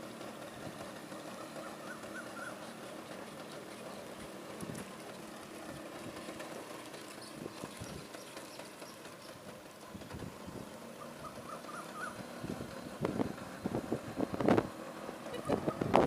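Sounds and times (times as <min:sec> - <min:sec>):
faint scooter engine running: 0:00.0 - 0:16.0.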